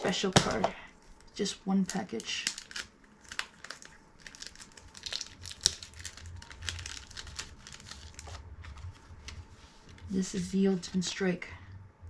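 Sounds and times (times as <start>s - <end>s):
plastic wrapping crinkling and tearing: 0.2s - 11.0s.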